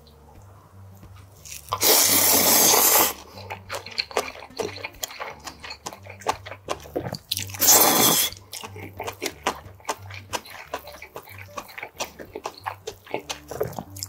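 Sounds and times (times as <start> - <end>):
moist chewing and lip-smacking: 0.0 - 14.0
wet noodle slurp: 1.4 - 14.0.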